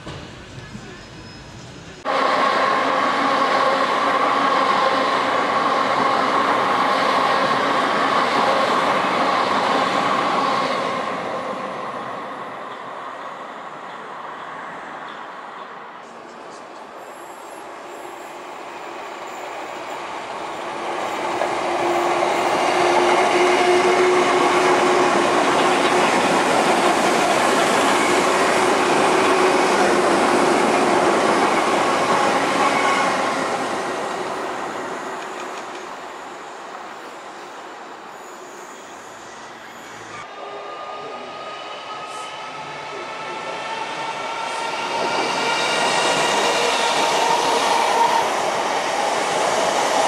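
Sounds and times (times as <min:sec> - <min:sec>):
electric trains rumbling on rails: 0:00.0 - 0:50.0.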